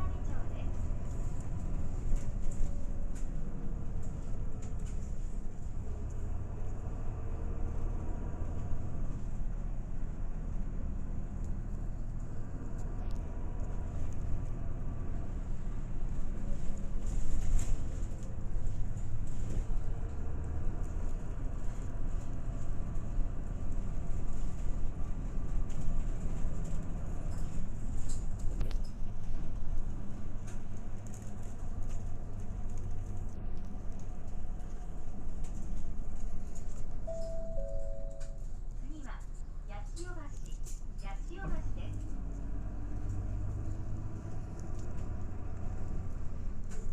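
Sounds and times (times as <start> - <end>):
bus engine drone: 0.0 - 46.9
road rumble: 0.0 - 46.9.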